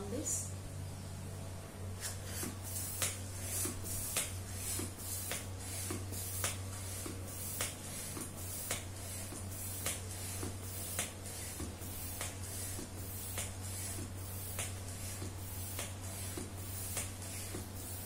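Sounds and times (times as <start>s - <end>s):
steady low hum: 0.0s - 18.0s
hand pump hissing air: 2.0s - 18.0s.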